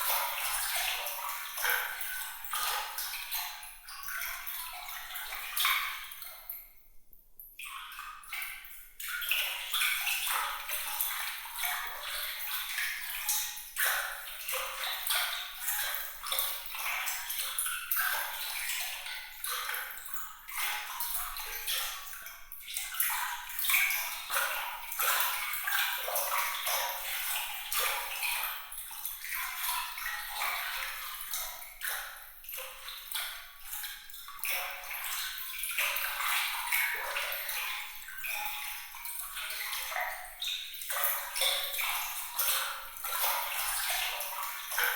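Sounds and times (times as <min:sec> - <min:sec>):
water splashing and trickling: 0:00.0 - 0:06.7, 0:07.6 - 0:44.9.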